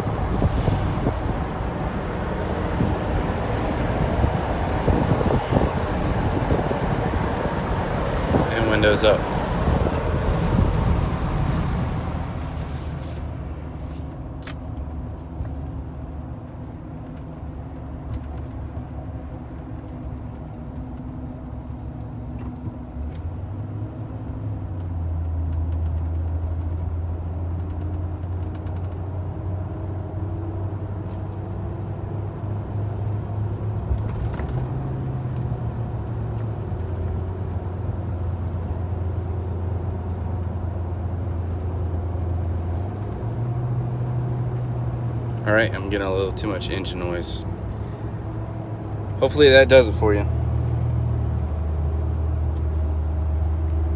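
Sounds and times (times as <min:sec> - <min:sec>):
engine hum: 0:00.0 - 0:53.9
tire roar: 0:00.0 - 0:53.9.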